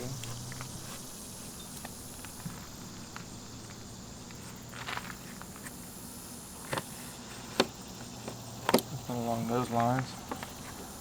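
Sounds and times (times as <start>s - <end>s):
faint handling ticks: 0.0s - 11.0s.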